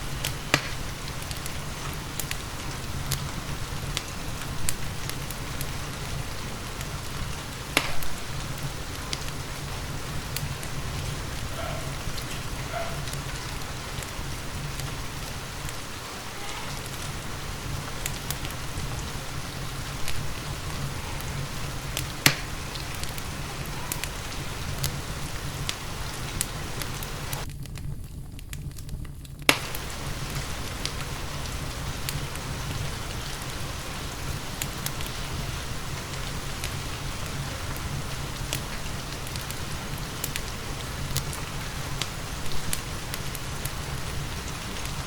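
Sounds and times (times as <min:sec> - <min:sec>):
steady rain: 0:00.0 - 0:45.0
wood fire crackling: 0:00.0 - 0:45.0.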